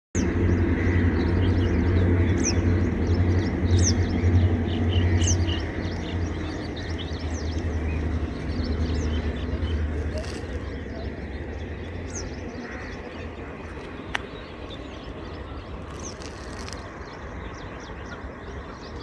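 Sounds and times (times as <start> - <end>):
birds chirping and calling: 0.2 - 19.0
steady low rumble: 0.2 - 19.0.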